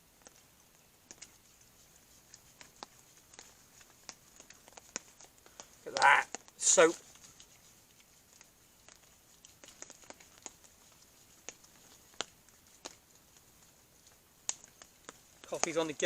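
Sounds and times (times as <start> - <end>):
water dripping: 0.0 - 16.0
hands rubbing with soap: 0.2 - 16.0.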